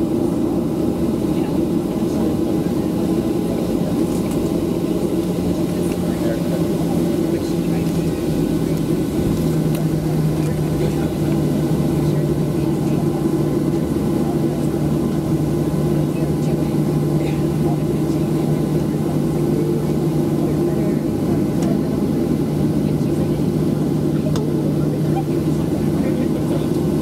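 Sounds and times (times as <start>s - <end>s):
jet engines hum: 0.0s - 27.0s.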